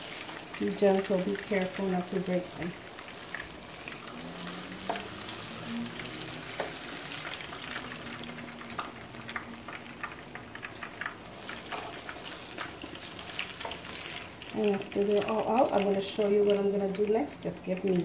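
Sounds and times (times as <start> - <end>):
plantains sizzling in hot oil: 0.0 - 18.0.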